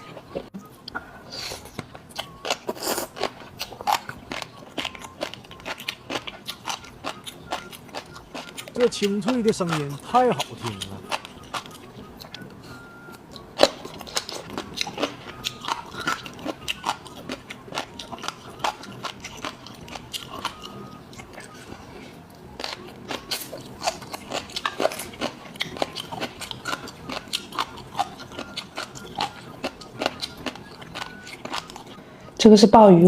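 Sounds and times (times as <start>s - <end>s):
chewing crisp food: 0.0s - 32.1s.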